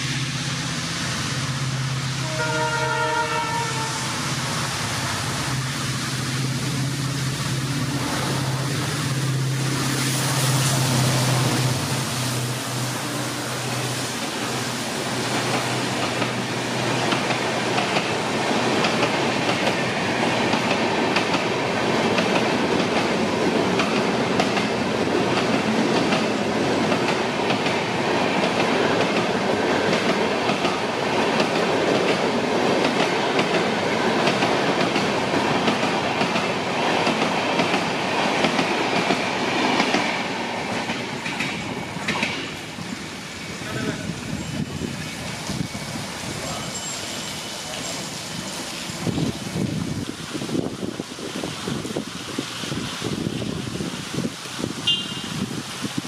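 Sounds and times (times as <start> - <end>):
train wheels clattering over rails: 4.6 - 49.8.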